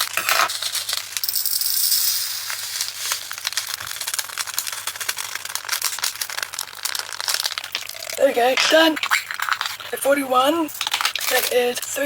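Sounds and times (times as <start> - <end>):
plastic beads pouring into container: 0.0 - 11.7.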